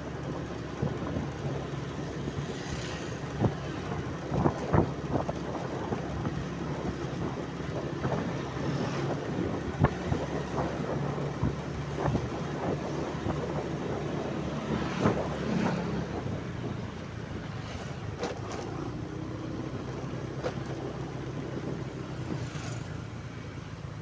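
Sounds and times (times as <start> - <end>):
wind noise on microphone: 0.0 - 23.2
vehicle running with low hum: 0.0 - 24.0.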